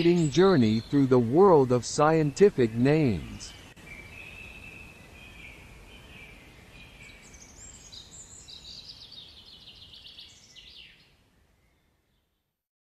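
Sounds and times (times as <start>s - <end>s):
birds chirping and trilling: 0.0s - 11.9s.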